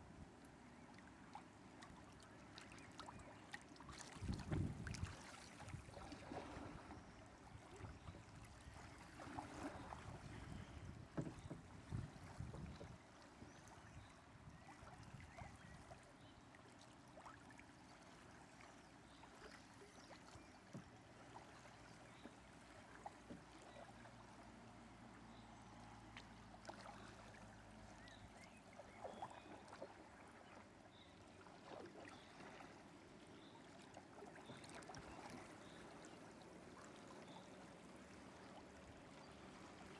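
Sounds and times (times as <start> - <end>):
river water lapping around canoe: 0.0 - 39.9.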